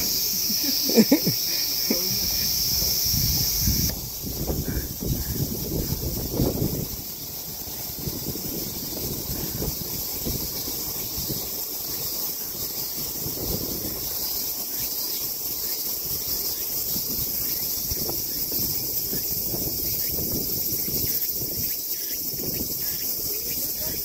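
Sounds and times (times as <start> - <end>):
cicadas droning: 0.0 - 24.0
wind rumbling on microphone: 0.0 - 24.0.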